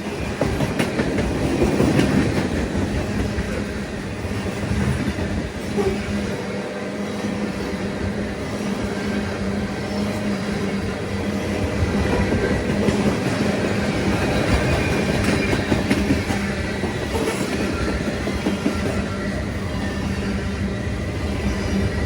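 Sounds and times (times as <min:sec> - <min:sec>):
train wheels clattering on track: 0:00.0 - 0:22.0.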